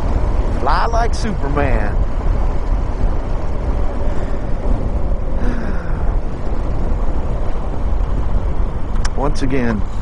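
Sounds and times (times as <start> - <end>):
heavy wind buffeting microphone: 0.0 - 10.0.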